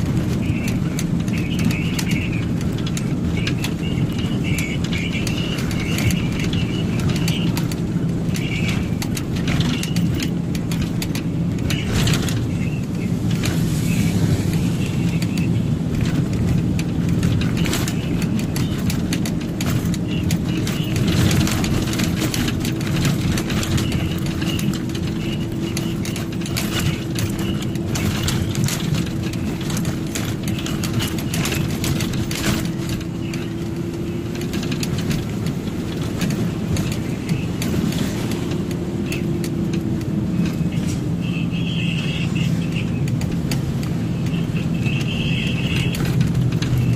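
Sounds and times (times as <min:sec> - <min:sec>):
truck engine droning: 0:00.0 - 0:46.9
tyres on road: 0:00.0 - 0:46.9.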